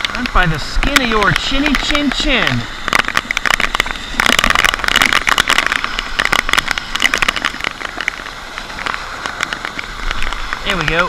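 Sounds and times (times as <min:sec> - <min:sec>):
rain drops hitting microphone: 0:00.0 - 0:11.0.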